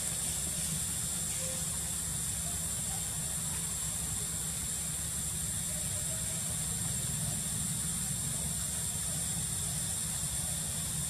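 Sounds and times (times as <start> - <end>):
constant high-pitched hiss: 0.0 - 11.0.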